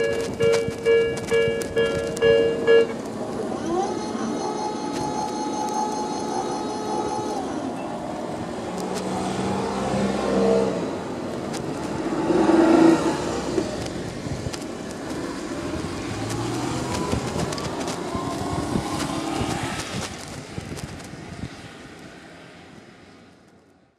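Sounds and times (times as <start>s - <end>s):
cars driving past: 0.0s - 23.5s.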